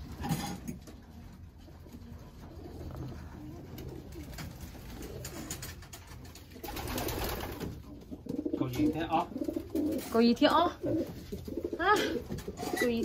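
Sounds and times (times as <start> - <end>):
rustling: 0.0 - 13.0
pigeons cooing: 1.3 - 13.0.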